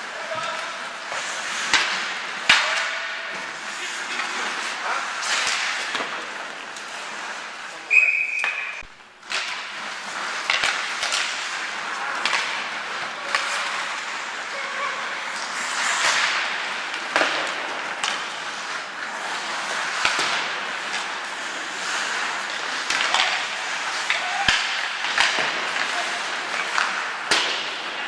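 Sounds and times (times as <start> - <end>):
hockey sticks and puck clacking: 0.0 - 28.0
skates scraping on ice: 0.0 - 28.0.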